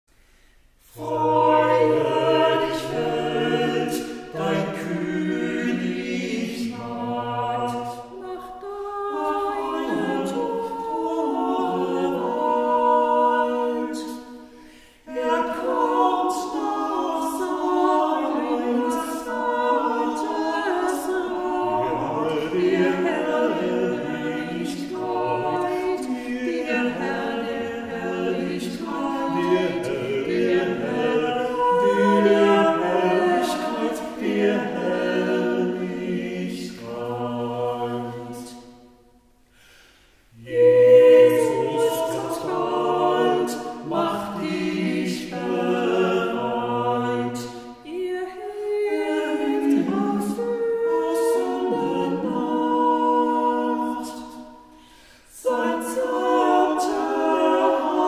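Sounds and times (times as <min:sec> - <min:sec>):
group singing a hymn a cappella: 0:00.3 - 0:58.0.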